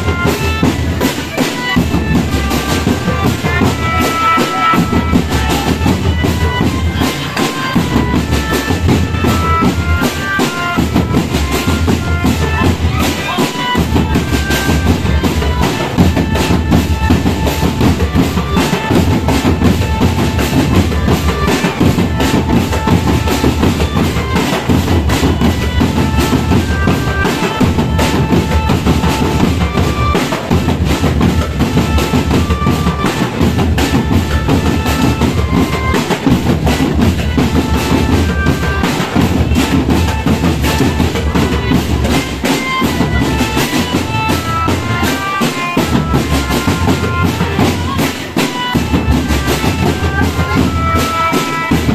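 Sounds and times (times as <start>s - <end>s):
marching drum band: 0.0s - 51.9s
snare drums beating: 0.0s - 51.9s.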